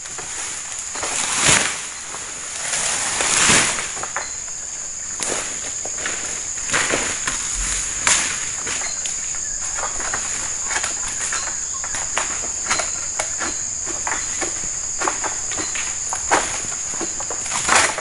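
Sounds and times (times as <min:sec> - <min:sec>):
insects droning: 0:00.0 - 0:18.0
rustles and crackles in undergrowth: 0:00.0 - 0:18.0.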